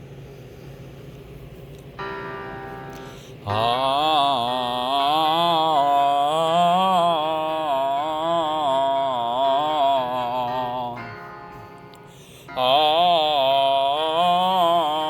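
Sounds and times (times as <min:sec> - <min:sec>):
person singing sustained vowel: 0:02.9 - 0:15.0.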